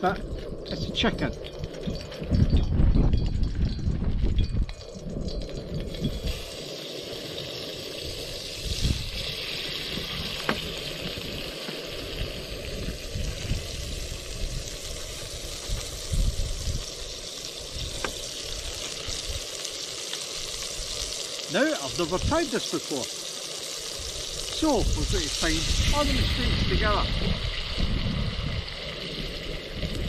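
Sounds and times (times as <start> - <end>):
chicken sizzling in a wok: 5.2 - 30.0.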